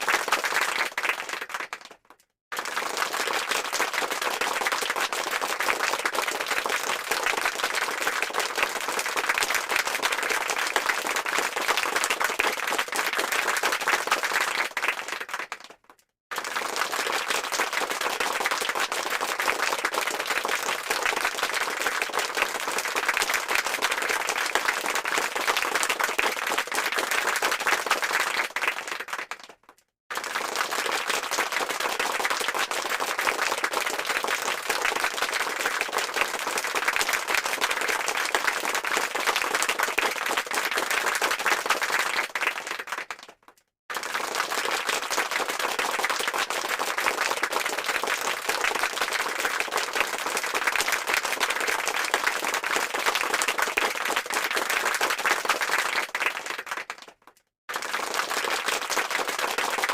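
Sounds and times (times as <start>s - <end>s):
crowd clapping: 0.0s - 59.9s.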